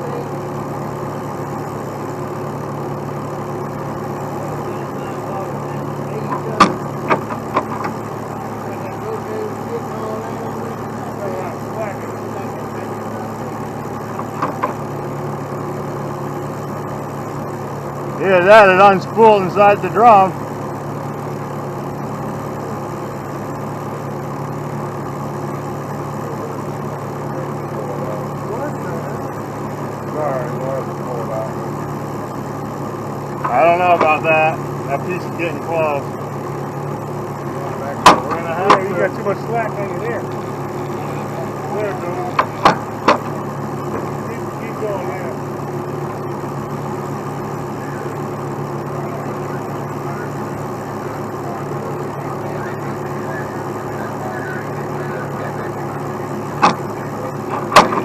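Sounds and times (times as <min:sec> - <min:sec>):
heavy truck engine idling: 0:00.0 - 0:58.0.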